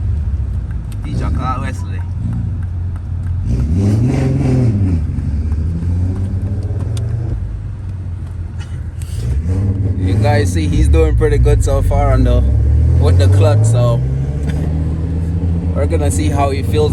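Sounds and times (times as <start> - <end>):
car engine droning: 0.0 - 16.9.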